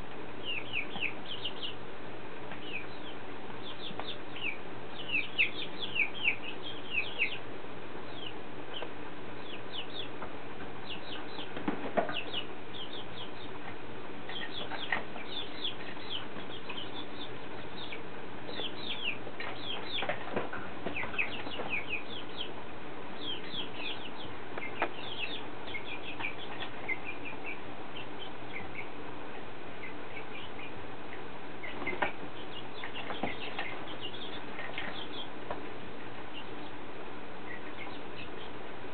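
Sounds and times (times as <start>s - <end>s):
young chickens peeping: 0.0s - 38.9s.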